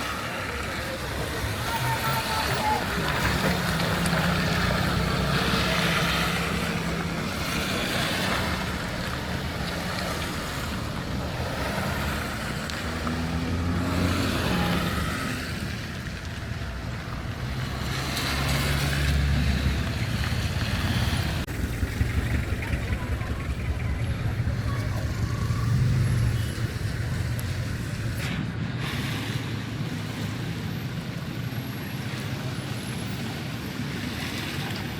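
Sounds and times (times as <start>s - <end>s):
tyre noise of passing cars: 0.0s - 34.9s
vehicle engines running: 0.0s - 34.9s.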